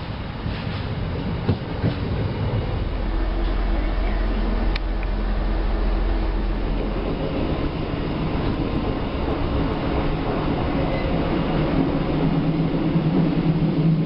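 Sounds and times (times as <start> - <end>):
rail car rumble and rattle: 0.0 - 14.0.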